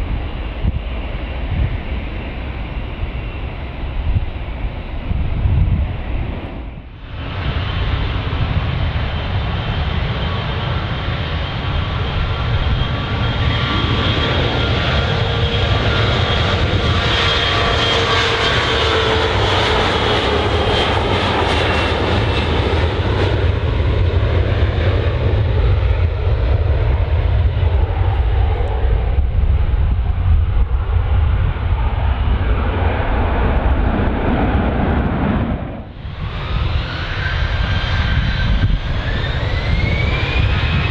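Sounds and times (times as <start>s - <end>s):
jet engines roaring and whining: 0.0s - 40.9s.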